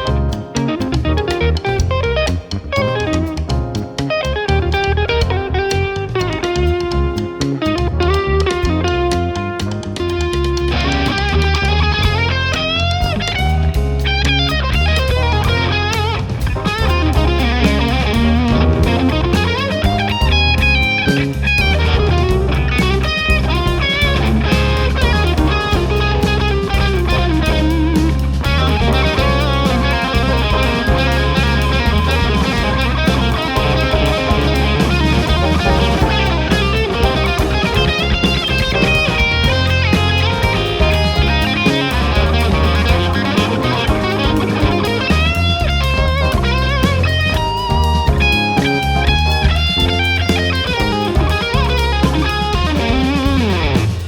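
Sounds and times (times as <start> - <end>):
bass: 0.0 - 54.0
drum kit: 0.0 - 54.0
electric guitar lead: 0.0 - 54.0
piano: 0.0 - 54.0.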